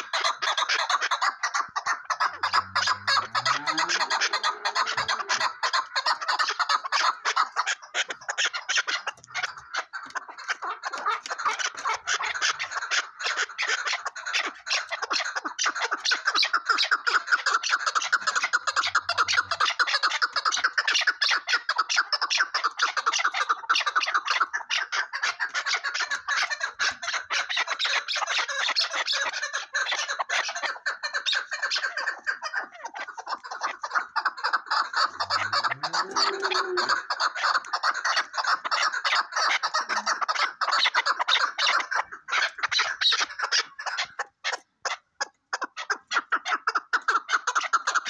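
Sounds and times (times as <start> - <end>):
partridges calling: 0.0 - 48.0.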